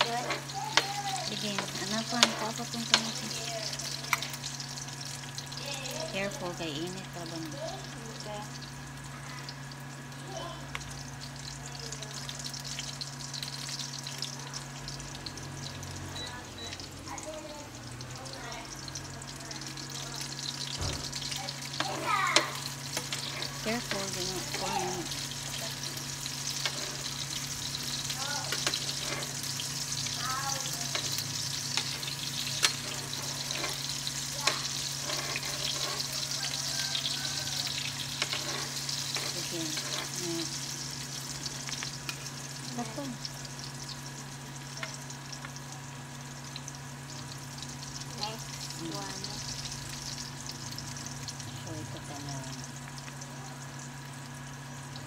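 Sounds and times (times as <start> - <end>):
onion sizzling in hot oil: 0.0 - 55.0
steady low hum: 0.0 - 55.0.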